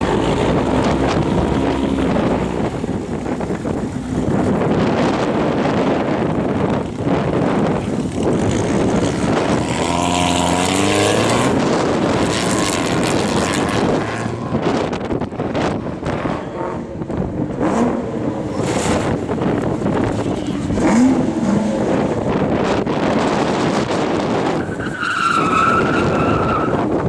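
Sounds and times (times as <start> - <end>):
car engines running: 0.0 - 27.0
wind buffeting microphone: 0.0 - 27.0.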